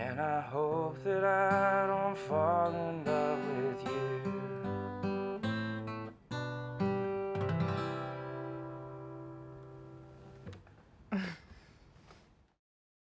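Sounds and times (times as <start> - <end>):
acoustic guitar chords: 0.0 - 10.6.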